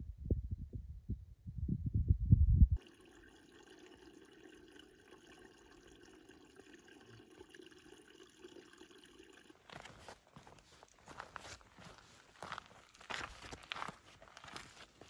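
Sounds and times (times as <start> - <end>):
stream trickling over stones: 2.8 - 15.0.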